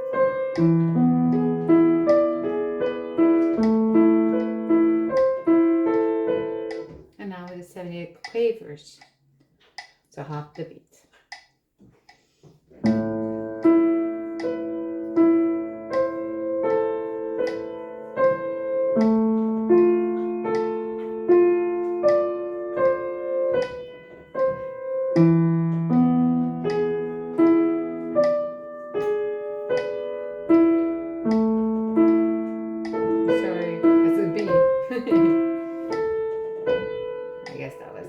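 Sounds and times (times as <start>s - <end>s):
slow piano broken chords: 0.0s - 7.2s, 12.8s - 38.0s.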